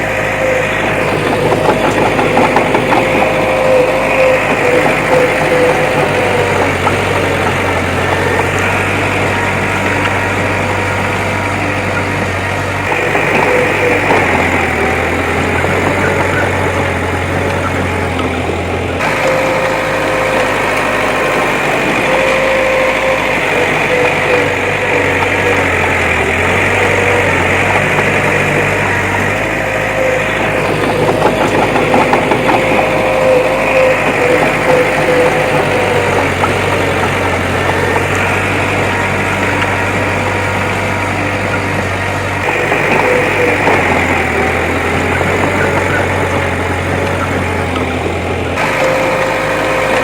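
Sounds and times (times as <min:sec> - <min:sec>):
clattering: 0:00.0 - 0:50.0
diesel engine running: 0:00.0 - 0:50.0.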